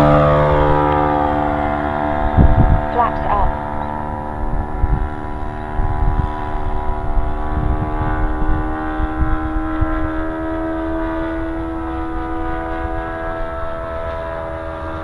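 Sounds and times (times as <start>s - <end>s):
model airplane engine droning: 0.0s - 15.0s
wind buffeting microphone: 0.0s - 15.0s.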